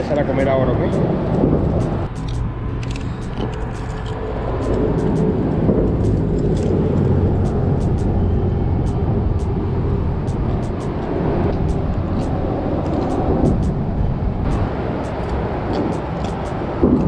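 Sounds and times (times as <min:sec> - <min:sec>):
road traffic rumble overhead: 0:00.0 - 0:17.0.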